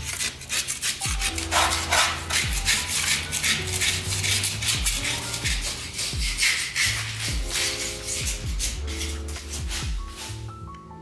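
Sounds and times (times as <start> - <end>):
tool scraping plaster wall: 0.0 - 10.5
background music with low beat: 1.0 - 11.0.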